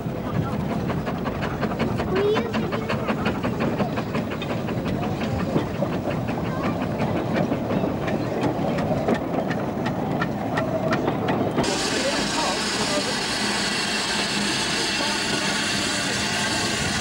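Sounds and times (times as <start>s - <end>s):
steam locomotive running: 0.0s - 17.0s.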